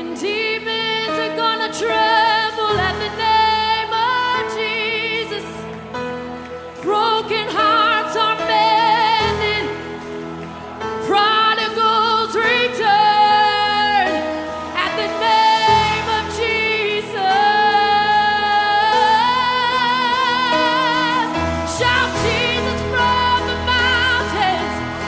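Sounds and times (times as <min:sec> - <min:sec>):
person singing with vibrato: 0:00.0 - 0:25.0
sustained instrumental backing: 0:00.0 - 0:25.0.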